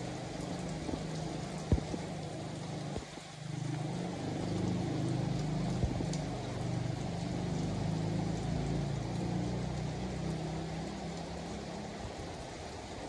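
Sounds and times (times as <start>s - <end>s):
steady rain hissing: 0.0s - 13.0s.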